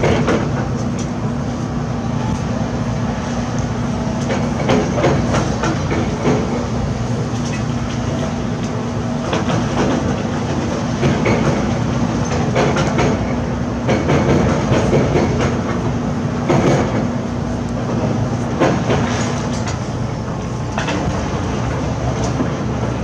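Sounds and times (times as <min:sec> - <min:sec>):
diesel machinery hum: 0:00.0 - 0:23.0.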